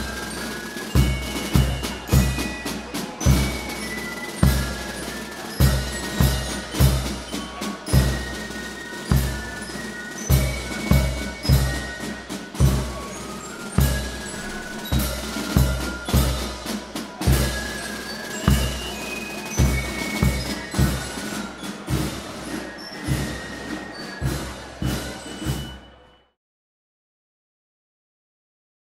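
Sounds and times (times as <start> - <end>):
heavy drum beating: 0.0 - 25.7
glockenspiel notes: 0.0 - 26.3.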